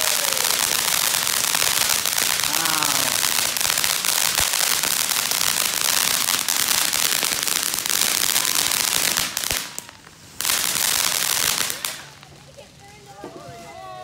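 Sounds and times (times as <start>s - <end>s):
firework crackling hiss: 0.0s - 14.0s.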